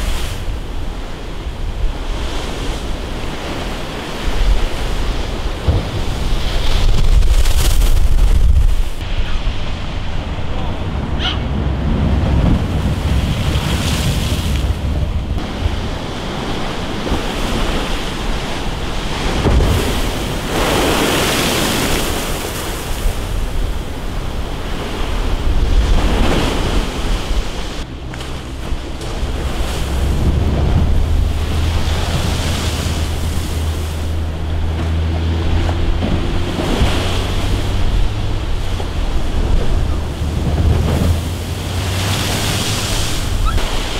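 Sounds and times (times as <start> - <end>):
waves crashing against seawall: 0.0 - 43.9
wind buffeting microphone: 0.0 - 43.9.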